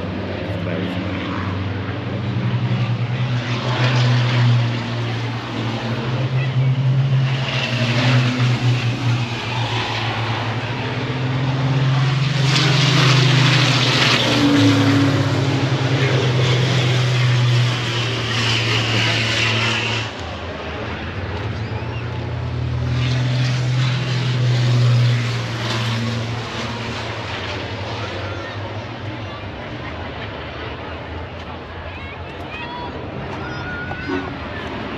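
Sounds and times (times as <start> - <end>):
heavy truck engines running: 0.0 - 34.9.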